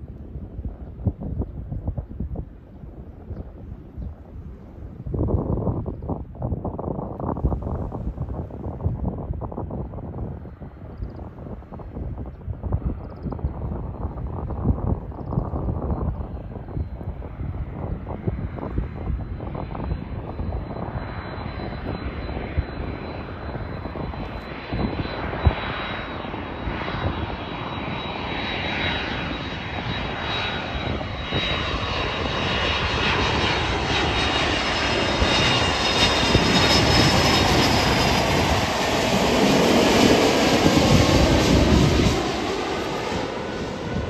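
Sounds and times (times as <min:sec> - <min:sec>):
jet airliner engines rumble and whine: 0:00.0 - 0:44.0.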